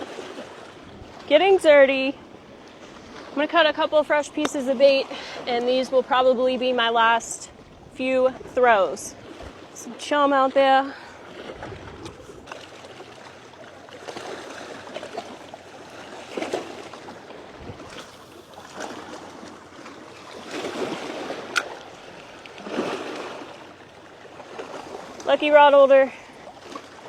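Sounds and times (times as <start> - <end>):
waves washing in: 0.0 - 27.0.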